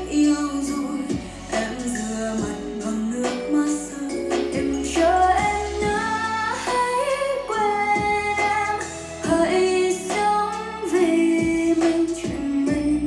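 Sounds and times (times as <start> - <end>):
pop ballad through speaker: 0.0 - 13.0.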